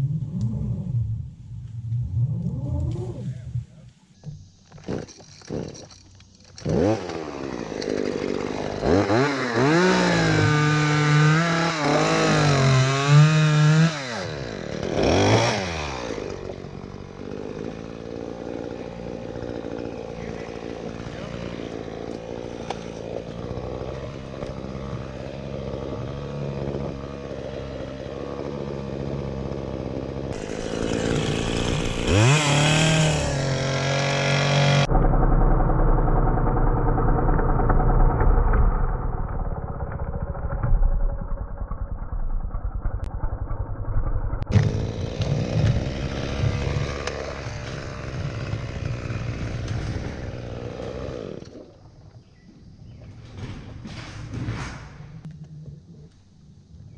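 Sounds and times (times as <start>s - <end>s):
chainsaw engine revving: 4.8s - 51.9s.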